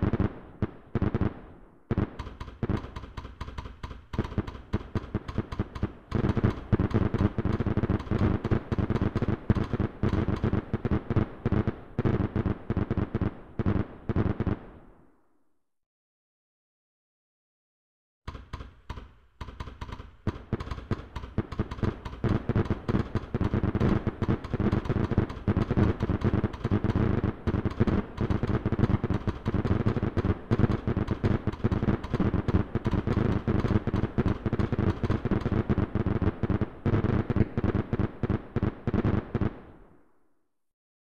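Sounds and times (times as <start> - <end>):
fireworks bangs and crackles: 0.0 - 15.0, 18.3 - 40.0.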